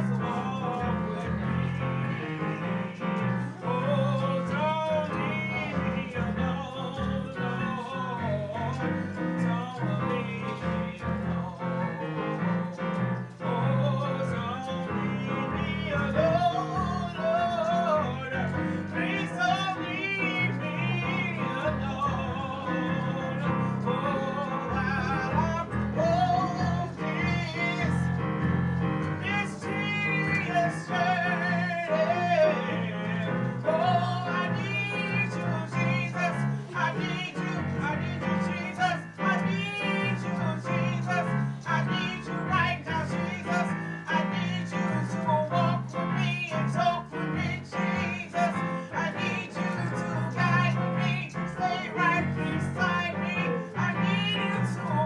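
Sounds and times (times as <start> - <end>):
instrumental accompaniment: 0.0 - 55.0
person singing with vibrato: 0.0 - 55.0.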